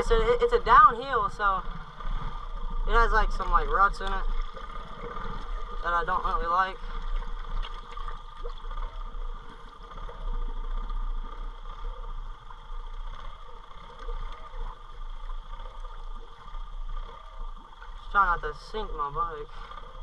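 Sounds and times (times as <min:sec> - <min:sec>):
water churning around tires: 0:00.0 - 0:20.0.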